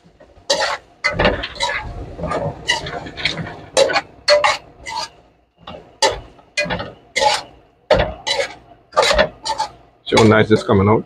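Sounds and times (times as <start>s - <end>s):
metal spoon scraping steel pot: 0.5s - 5.2s, 6.0s - 10.8s.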